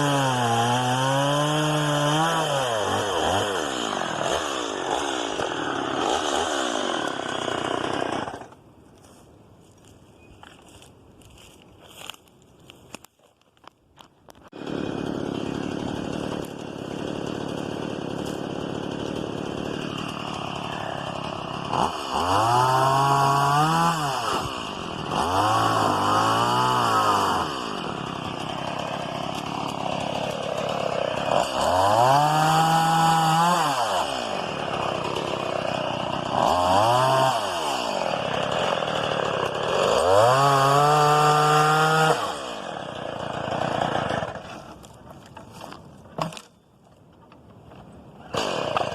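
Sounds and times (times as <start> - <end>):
chainsaw idling and revving: 0.0 - 8.6, 14.4 - 46.4, 48.3 - 48.9.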